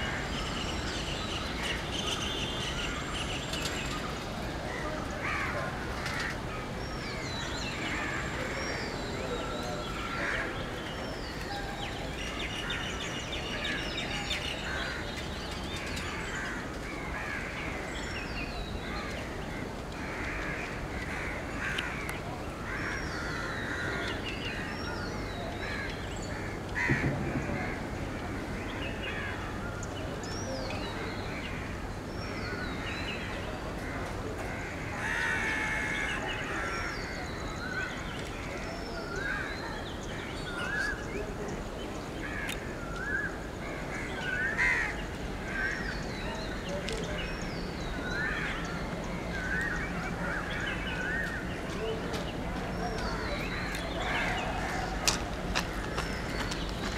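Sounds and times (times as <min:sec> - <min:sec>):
birds calling and chirping: 0:00.0 - 0:56.9.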